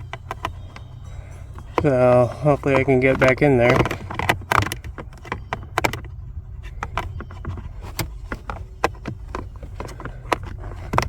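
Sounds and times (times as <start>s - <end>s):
plastic cover clicks and knocks: 0.0s - 0.9s, 1.7s - 11.0s
steady low hum: 0.0s - 11.0s.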